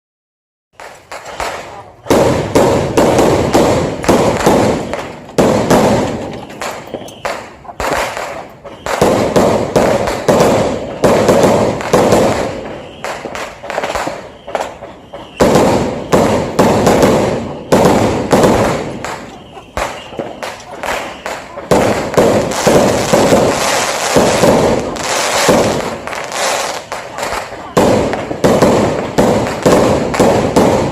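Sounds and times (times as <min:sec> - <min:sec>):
fireworks bangs and crackles: 0:00.8 - 0:30.9.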